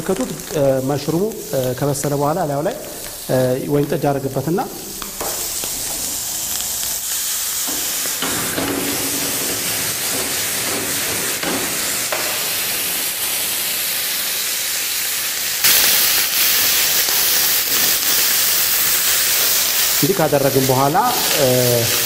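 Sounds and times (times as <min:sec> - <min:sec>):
mushrooms sizzling in a pan: 0:00.0 - 0:22.0
steam hissing: 0:00.0 - 0:22.0.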